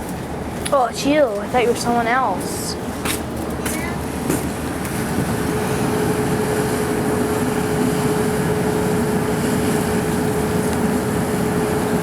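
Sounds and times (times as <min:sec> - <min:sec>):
ferry engine drone: 0:00.0 - 0:12.0
steady humming tone: 0:00.0 - 0:12.0.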